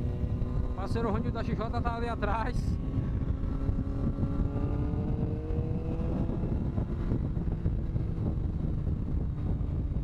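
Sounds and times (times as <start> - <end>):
motorcycle engine accelerating: 0.0 - 10.0
wind rush on microphone: 0.0 - 10.0.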